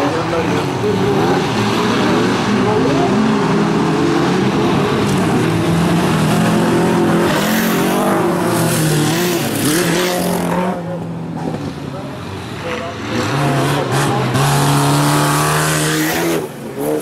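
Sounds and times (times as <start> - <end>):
race car engines running hard: 0.0 - 17.0.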